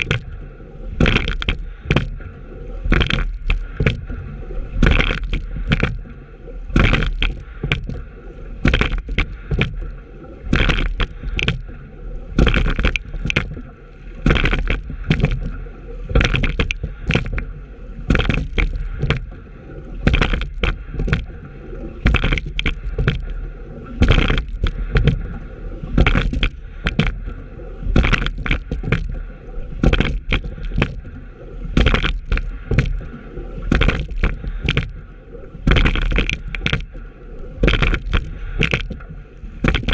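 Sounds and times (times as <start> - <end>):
oars splashing in water: 0.0 - 39.9
water rushing along hull: 0.0 - 39.9.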